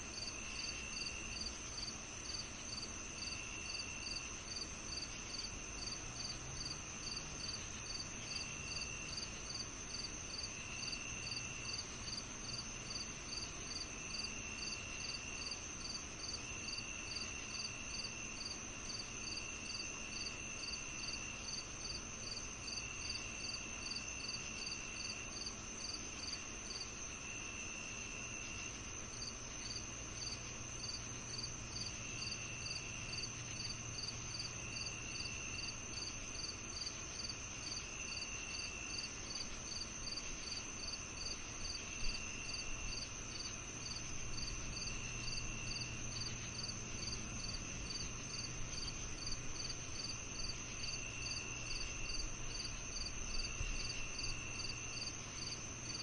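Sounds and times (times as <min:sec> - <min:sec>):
crickets chirping: 0:00.0 - 0:56.0
insects droning: 0:00.0 - 0:56.0.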